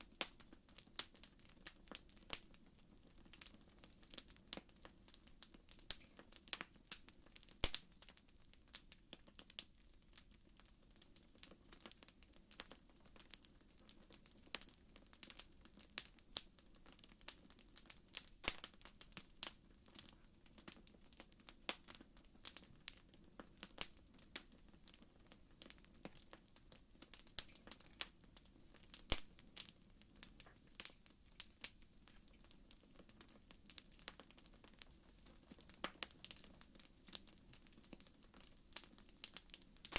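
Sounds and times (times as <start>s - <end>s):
campfire crackling: 0.0s - 39.9s
faint low hiss: 0.0s - 39.9s.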